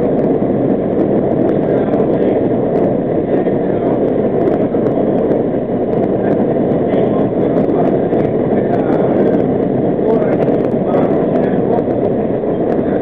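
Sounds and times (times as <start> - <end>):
subway car wheels rumbling on rails: 0.0 - 13.0.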